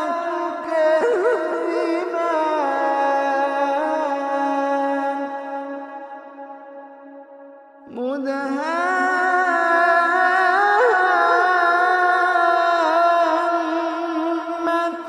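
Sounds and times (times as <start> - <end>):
man chanting recitation: 0.0 - 6.2, 7.9 - 15.0.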